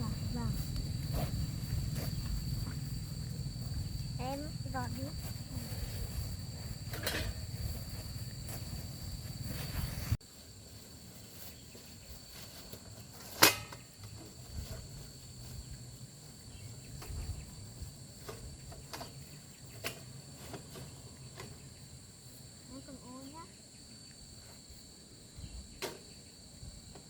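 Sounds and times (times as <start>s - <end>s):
faint outdoor background noise: 0.0s - 27.0s
insect chirring: 0.0s - 27.0s.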